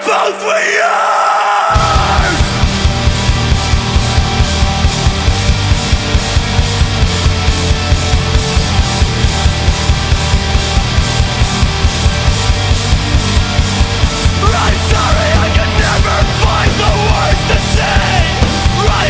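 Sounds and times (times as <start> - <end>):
heavy rock instrumental: 0.0 - 19.0.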